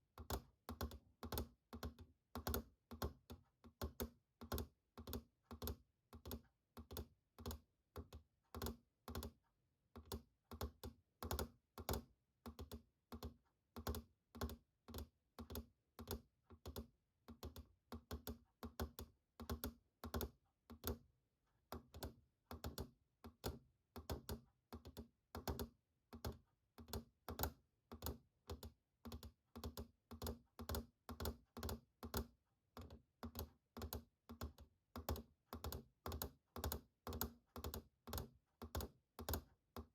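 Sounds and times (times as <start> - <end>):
computer keyboard keys tapping: 0.2 - 21.1, 21.7 - 39.9.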